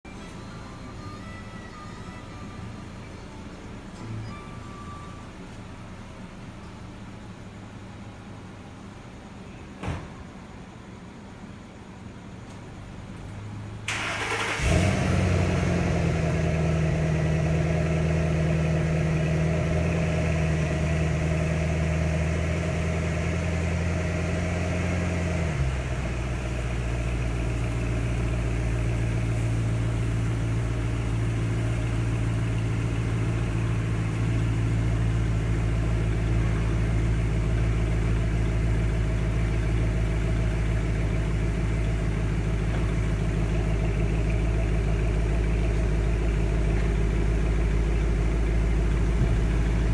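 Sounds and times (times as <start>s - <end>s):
car engine idling: 5.4s - 49.9s.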